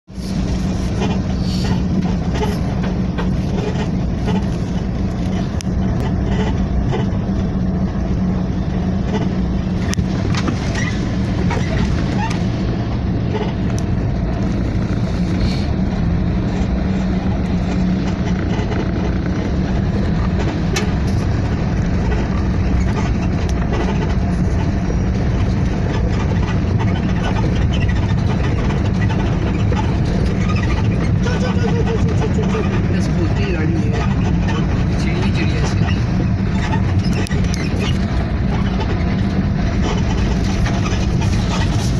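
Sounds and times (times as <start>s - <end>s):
vehicle engine humming: 0.0s - 41.9s.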